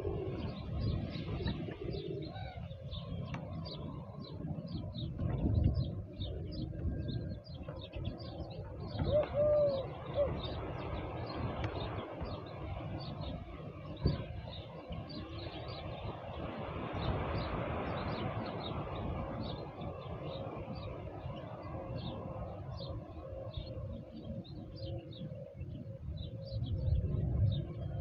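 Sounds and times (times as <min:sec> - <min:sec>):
low outdoor rumble: 0:00.0 - 0:28.0
small birds chirping: 0:00.0 - 0:28.0.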